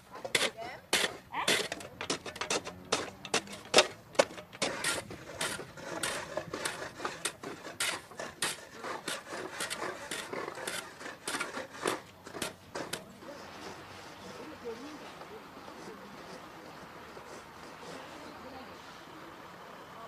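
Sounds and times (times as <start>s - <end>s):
shovel scraping wet salt: 0.0s - 19.0s.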